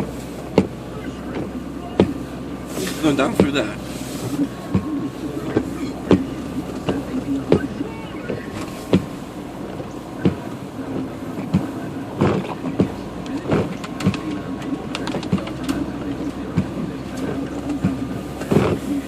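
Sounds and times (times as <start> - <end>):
knocks and clunks: 0.0 - 2.2, 2.8 - 19.0
vehicle engine running: 0.0 - 19.0.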